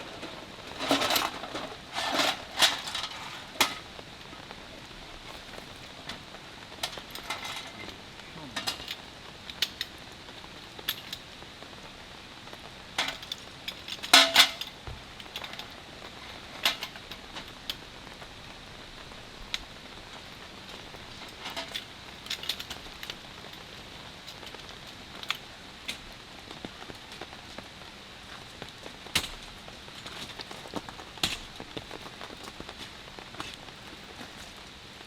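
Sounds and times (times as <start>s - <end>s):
light rain hiss: 0.0s - 35.0s
raindrops tapping a surface: 0.0s - 35.0s.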